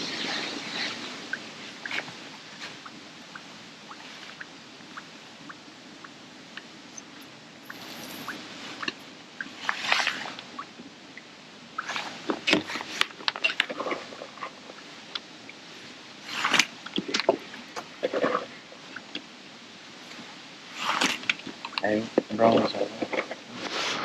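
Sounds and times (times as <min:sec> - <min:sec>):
rustling of waterproof clothing: 0:00.0 - 0:24.0.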